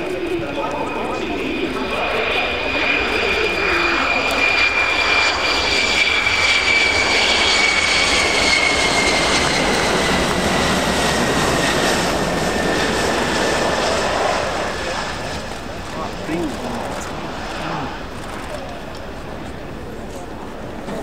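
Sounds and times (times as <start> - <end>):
jet engine roar and whine: 0.0 - 21.0.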